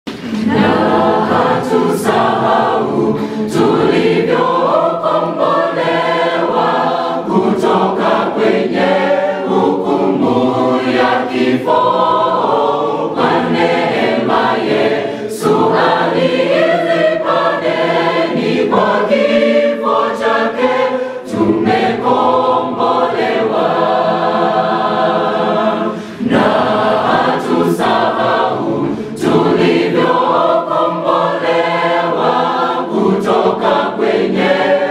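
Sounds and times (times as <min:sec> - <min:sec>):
mixed choir singing gospel: 0:00.1 - 0:34.9.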